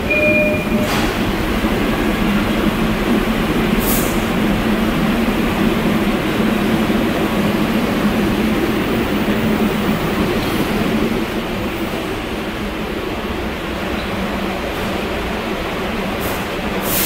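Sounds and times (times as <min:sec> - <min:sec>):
subway train rumble and hum: 0:00.0 - 0:17.0.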